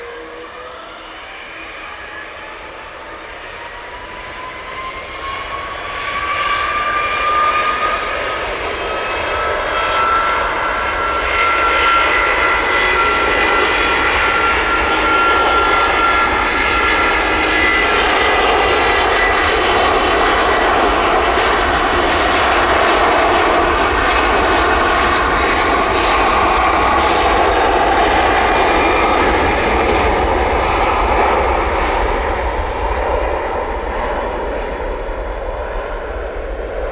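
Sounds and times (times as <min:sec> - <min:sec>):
jet engines roaring at takeoff: 0:00.0 - 0:36.9.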